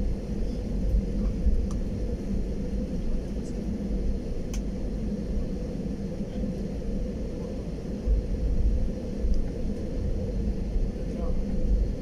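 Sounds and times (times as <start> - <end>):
jet airliner cabin engine rumble: 0.0 - 12.0.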